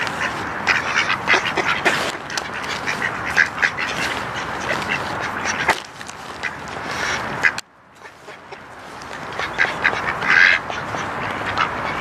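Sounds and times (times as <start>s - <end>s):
steady rustle: 0.0s - 11.6s
ducks quacking: 0.0s - 12.0s.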